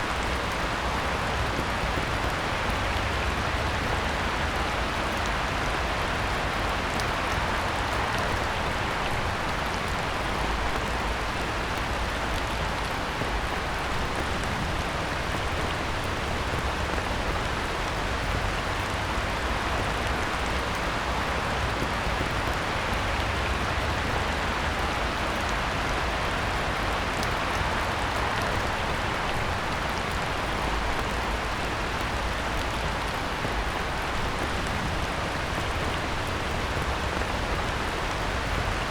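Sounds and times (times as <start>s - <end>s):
heavy rain on pond: 0.0s - 38.9s.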